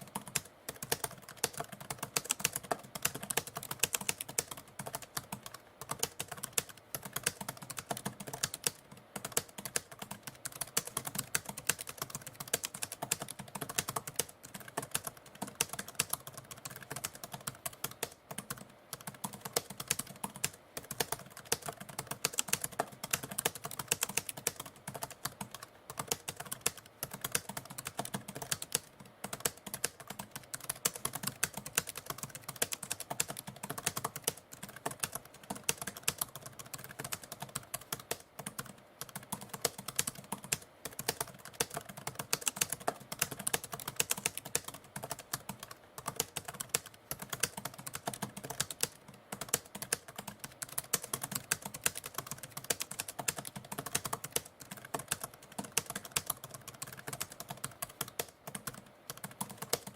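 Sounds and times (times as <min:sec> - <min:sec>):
rapid typewriter typing: 0:00.0 - 0:59.9.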